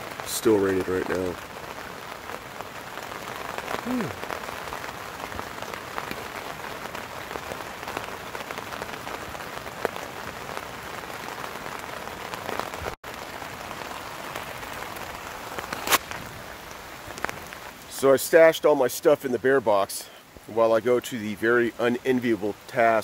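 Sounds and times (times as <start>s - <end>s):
rain on a tent: 0.0s - 23.0s.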